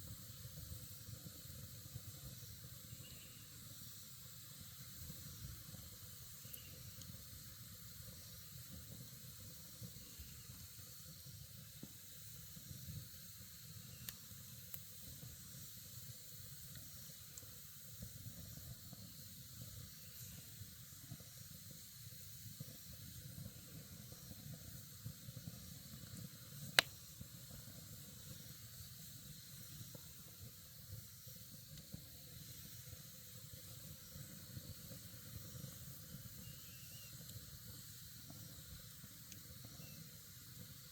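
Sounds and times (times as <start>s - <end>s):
campfire hissing and crackling: 0.0s - 40.9s
fire popping: 0.0s - 40.9s.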